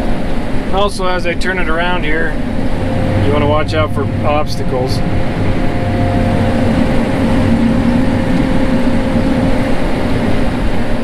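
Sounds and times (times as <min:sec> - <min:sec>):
combine harvester engine drone: 0:00.0 - 0:11.0
faint constant whine: 0:00.0 - 0:11.0.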